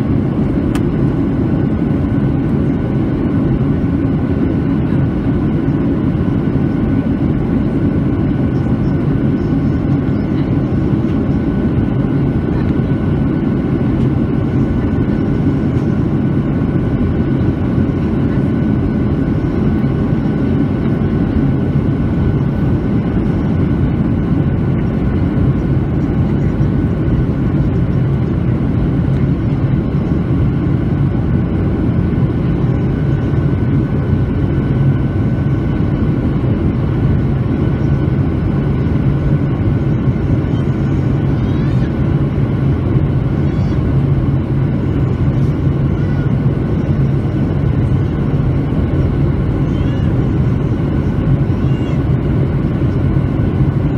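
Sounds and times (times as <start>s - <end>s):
airplane cabin hum: 0.0s - 53.9s.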